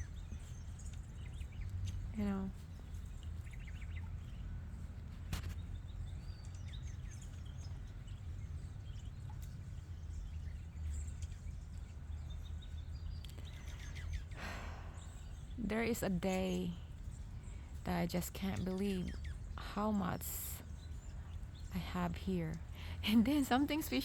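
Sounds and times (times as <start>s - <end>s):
songbirds chirping faintly: 0.0s - 24.0s
steady low rumble: 0.0s - 24.0s.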